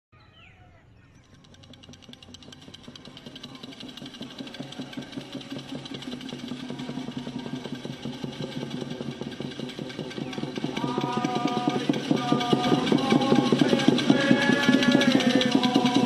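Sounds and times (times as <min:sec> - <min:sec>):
wooden clapper rattle clattering: 0:01.3 - 0:16.0.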